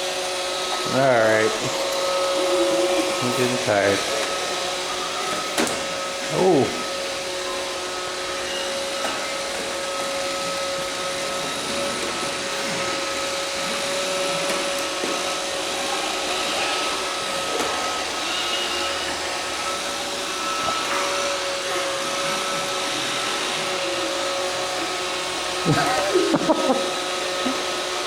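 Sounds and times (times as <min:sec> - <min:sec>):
robot vacuum whirring: 0:00.0 - 0:28.0.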